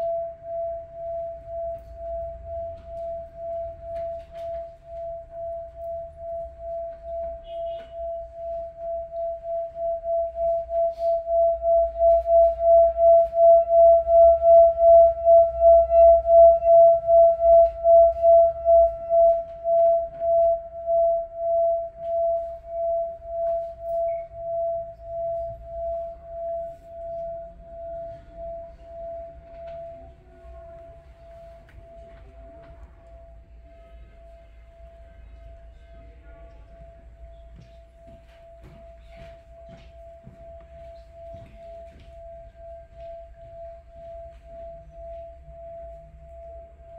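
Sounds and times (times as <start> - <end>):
singing bowl ringing: 0.0 - 46.9.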